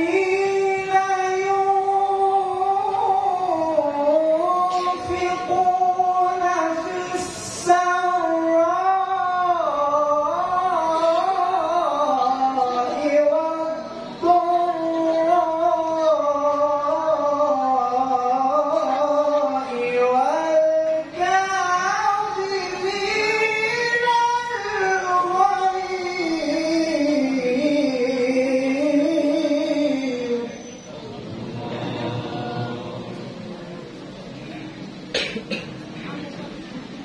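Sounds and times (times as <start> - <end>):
man reciting melodically over loudspeakers: 0.0 - 36.2.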